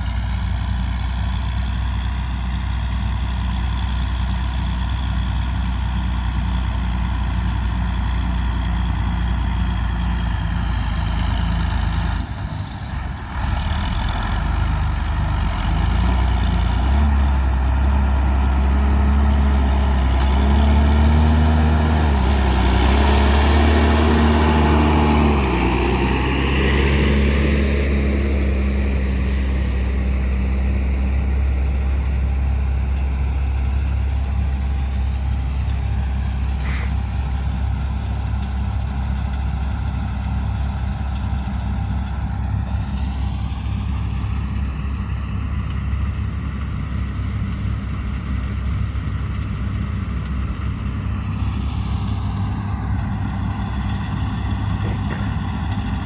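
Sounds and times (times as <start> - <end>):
large diesel engine running: 0.0 - 56.0.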